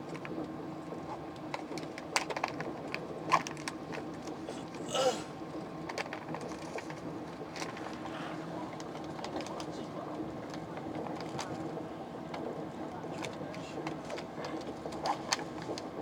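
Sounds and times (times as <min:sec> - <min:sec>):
train carriage hum: 0:00.0 - 0:16.0.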